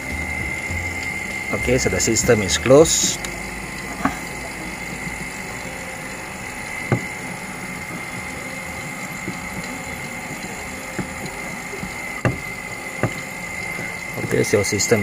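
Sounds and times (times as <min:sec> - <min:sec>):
vacuum pump humming: 0:00.0 - 0:15.0.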